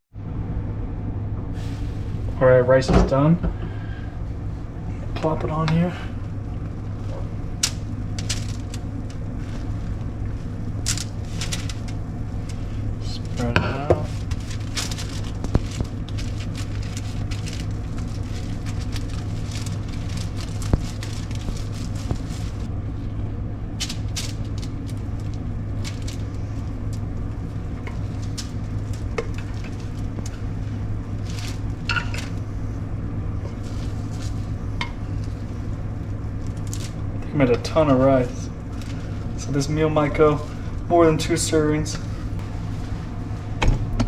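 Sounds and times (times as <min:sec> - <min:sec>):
steady low hum: 0:00.1 - 0:44.0.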